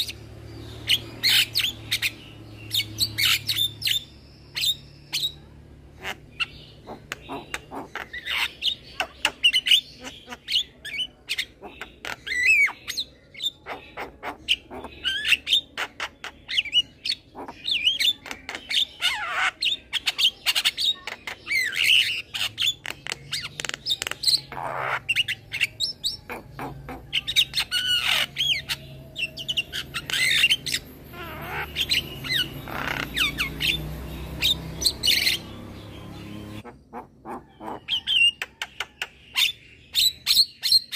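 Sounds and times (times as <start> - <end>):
myna bird singing: 0.0 - 40.9.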